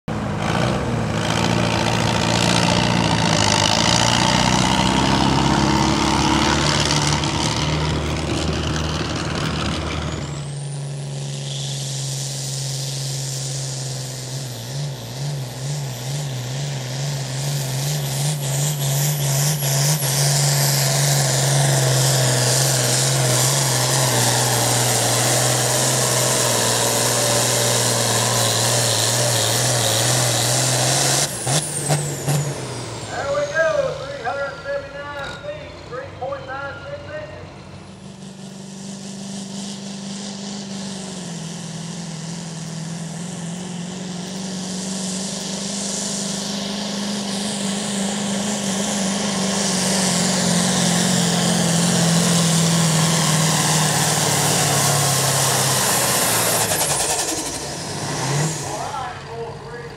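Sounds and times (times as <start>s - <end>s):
diesel tractor engine at full throttle: 0.0s - 59.9s
high turbo whine: 0.0s - 59.9s.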